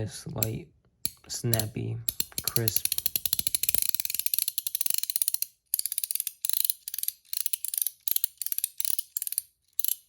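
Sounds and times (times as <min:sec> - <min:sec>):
fidget coin clicking: 0:01.6 - 0:10.0.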